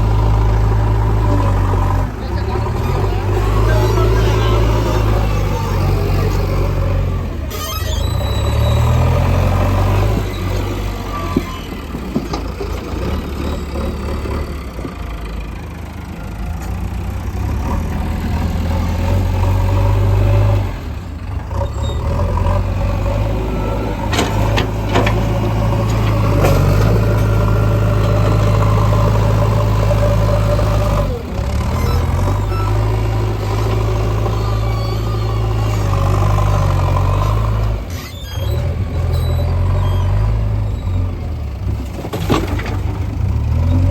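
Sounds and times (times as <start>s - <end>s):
heavy machinery diesel engine: 0.0s - 43.9s.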